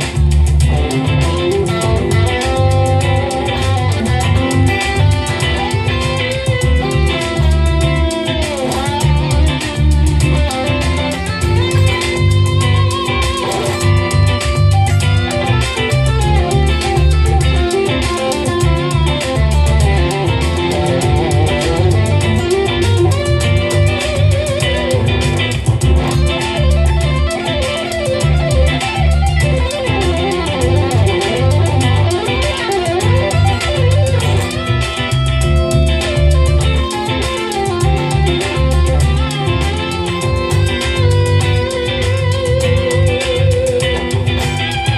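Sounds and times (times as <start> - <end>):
bass: 0.0 - 44.9
drums: 0.0 - 44.9
electric guitar lead: 0.0 - 44.9.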